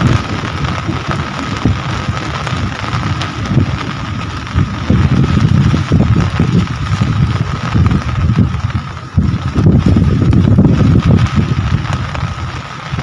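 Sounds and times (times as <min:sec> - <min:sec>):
low uneven rumble: 0:00.0 - 0:13.0
rain falling: 0:00.0 - 0:13.0.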